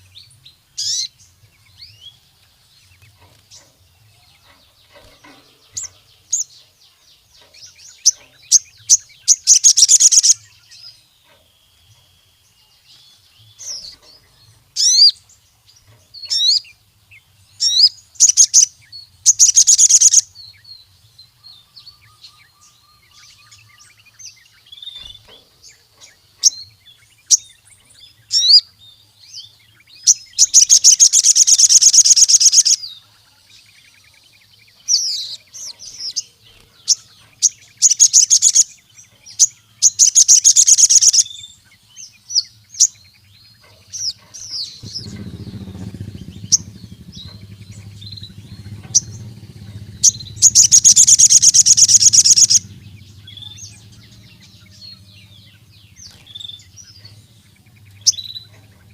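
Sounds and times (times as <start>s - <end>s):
sunbird chirping and trilling: 0.0s - 58.9s.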